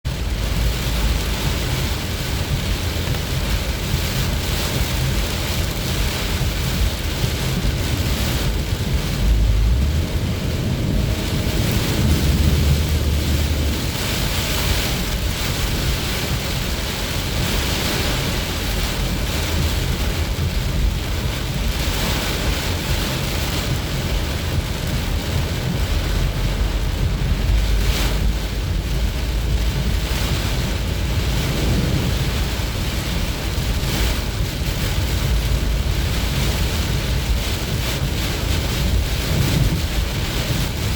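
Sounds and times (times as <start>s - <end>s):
car rumbling on road: 0.0s - 40.9s
heavy rain on a car: 0.0s - 40.9s.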